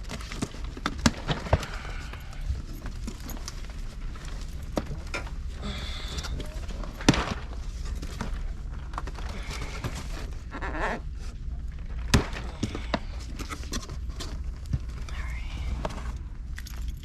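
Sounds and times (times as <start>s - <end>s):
packaging clicks and rustles: 0.0s - 17.0s
steady low hum: 0.0s - 17.0s.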